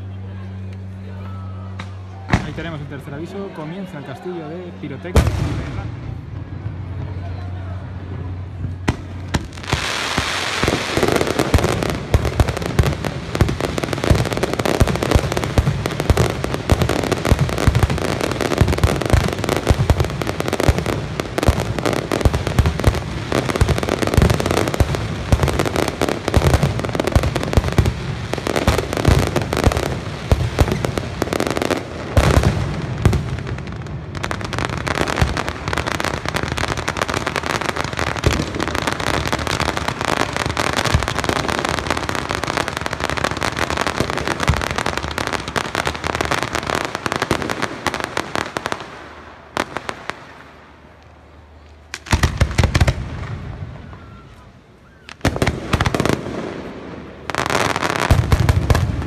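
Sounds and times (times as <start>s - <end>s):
fireworks bangs and crackling: 1.6s - 59.0s.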